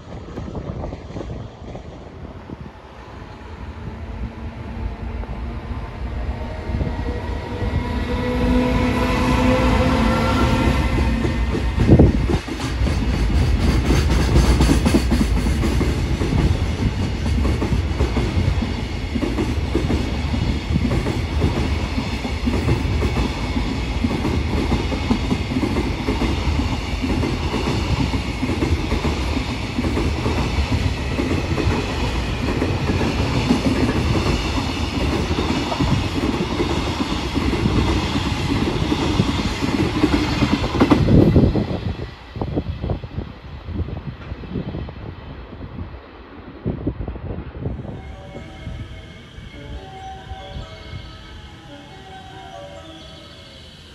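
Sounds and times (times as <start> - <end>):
freight train passing: 0.0 - 53.9.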